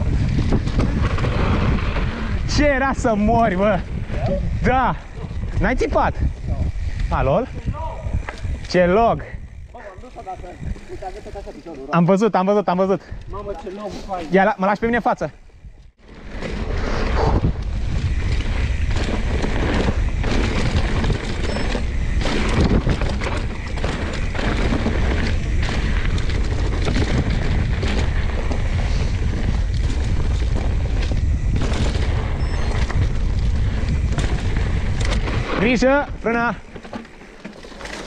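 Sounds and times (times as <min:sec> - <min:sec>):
wind buffeting microphone: 0:00.0 - 0:11.8, 0:15.0 - 0:37.0
bike rattling over rocks: 0:00.0 - 0:11.9, 0:15.6 - 0:38.0.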